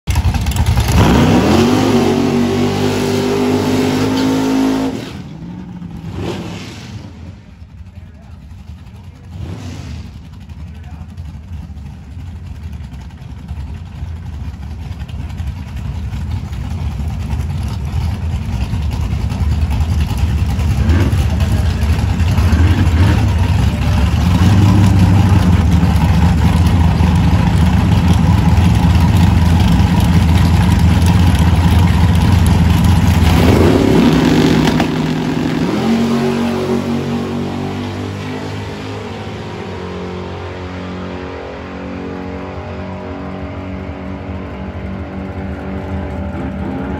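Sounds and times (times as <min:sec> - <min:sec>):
drag car engines revving: 0:00.1 - 0:46.9.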